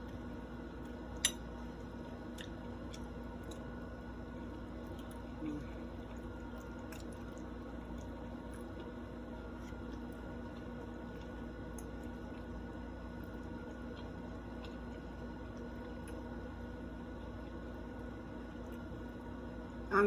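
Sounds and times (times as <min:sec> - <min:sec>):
wet chewing of food: 0:00.0 - 0:19.7
steady low hum: 0:00.0 - 0:20.0.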